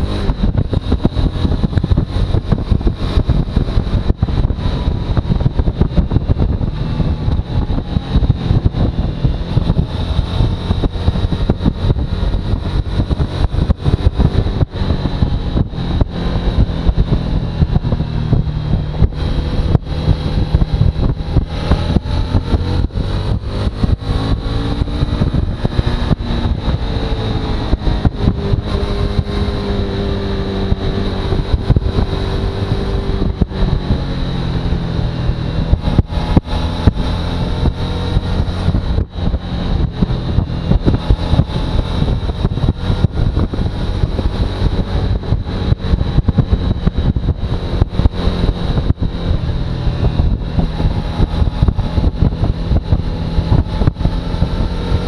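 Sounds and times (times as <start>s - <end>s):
motorcycle engine revving: 0.0s - 55.0s
wind buffeting microphone: 0.0s - 55.0s.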